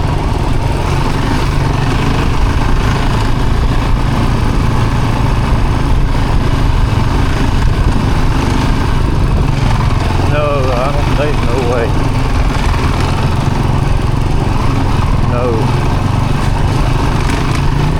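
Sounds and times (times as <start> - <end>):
vehicle engine rumble: 0.0 - 17.9.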